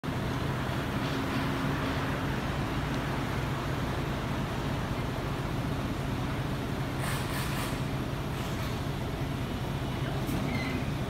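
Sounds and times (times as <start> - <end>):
bus diesel engine idling: 0.0 - 11.0.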